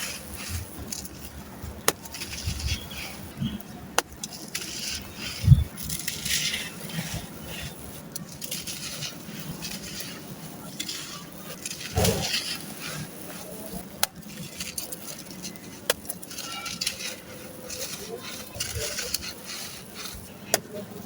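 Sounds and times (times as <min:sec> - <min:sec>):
sand-cement crunching and crackling: 0:00.0 - 0:21.0.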